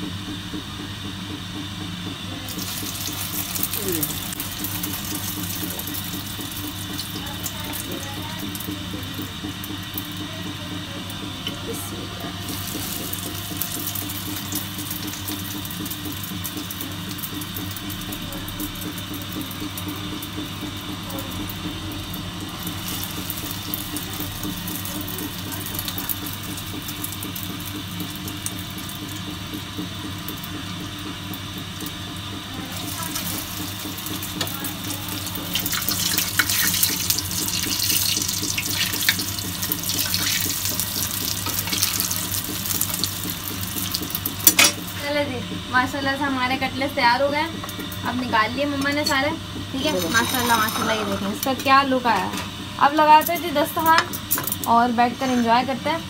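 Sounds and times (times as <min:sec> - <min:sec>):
food sizzling in hot oil: 0:02.4 - 0:56.0.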